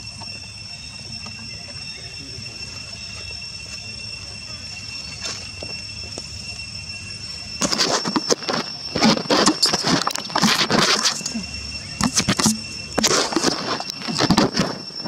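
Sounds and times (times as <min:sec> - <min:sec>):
rustling in dry grass and leaves: 0:02.8 - 0:15.0.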